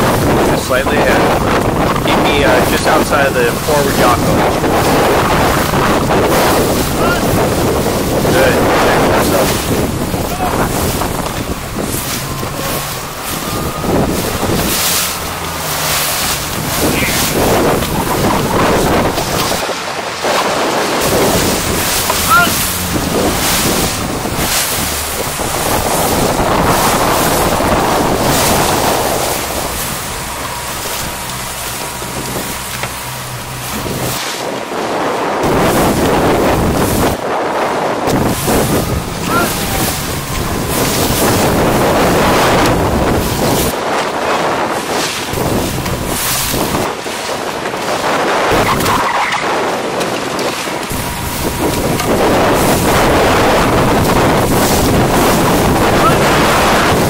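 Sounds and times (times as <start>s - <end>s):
water splashing past canoe hulls: 0.0s - 57.0s
wind buffeting microphone: 0.0s - 57.0s.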